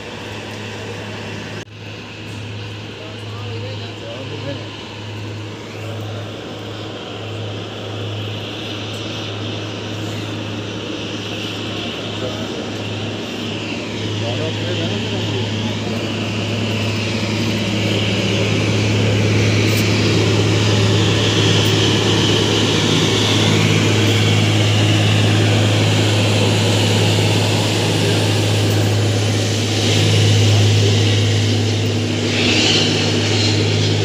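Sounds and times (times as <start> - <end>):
diesel engine drone: 0.0 - 34.0.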